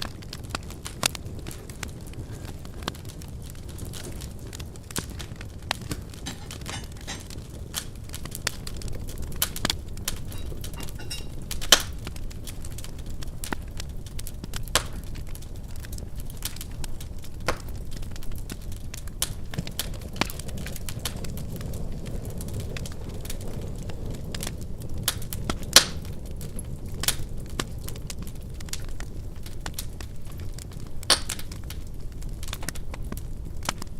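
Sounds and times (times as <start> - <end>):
fire crackling in fireplace: 0.0 - 33.9
loud fire pops: 0.0 - 33.9.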